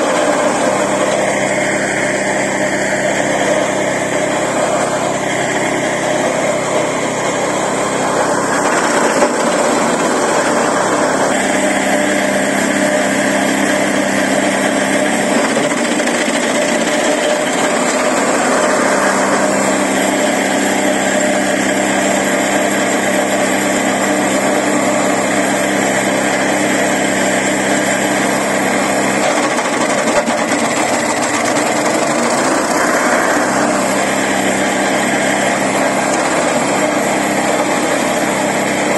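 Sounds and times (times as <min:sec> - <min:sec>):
branch chipper engine running: 0:00.0 - 0:38.9.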